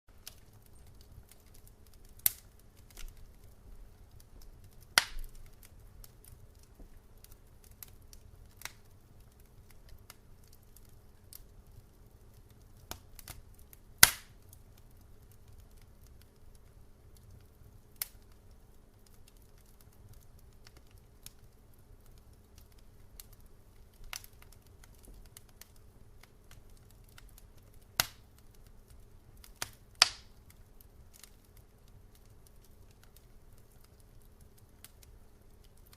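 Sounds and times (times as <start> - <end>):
wood fire crackling and popping: 0.1 - 35.9.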